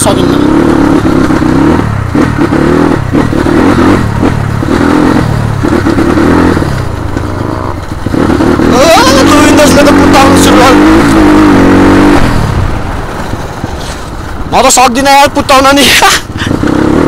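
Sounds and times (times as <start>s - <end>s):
rattling over rough road: 0.0s - 17.0s
vehicle engine running: 0.0s - 17.0s.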